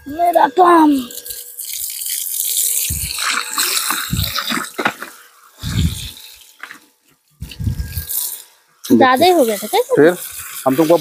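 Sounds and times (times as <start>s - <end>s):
hose water splashing in a bucket: 0.1s - 7.2s, 8.0s - 11.0s.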